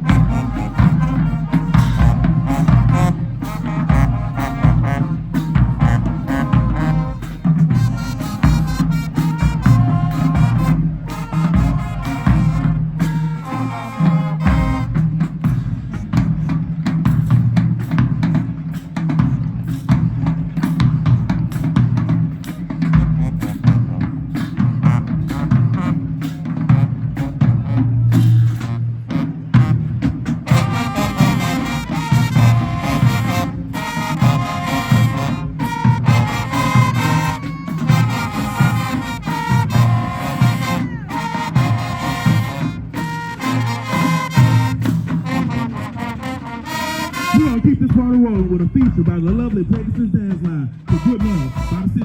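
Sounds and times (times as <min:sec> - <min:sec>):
brass: 0:00.0 - 0:49.6, 0:50.7 - 0:52.0
driving drum beat: 0:00.0 - 0:52.0.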